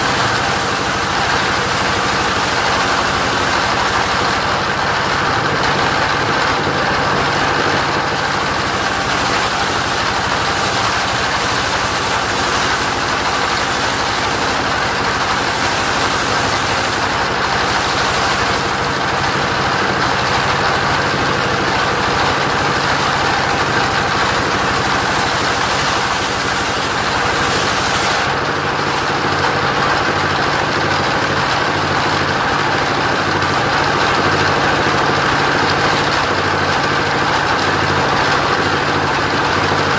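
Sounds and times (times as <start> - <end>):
sawmill engine hum: 0.0 - 39.9.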